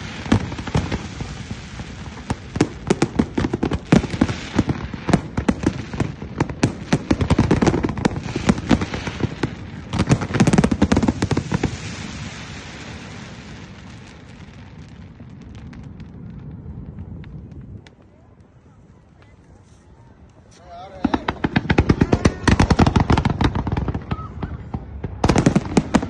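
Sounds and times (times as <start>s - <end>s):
background noise: 0.0s - 26.0s
fireworks bangs and crackles: 0.0s - 26.0s.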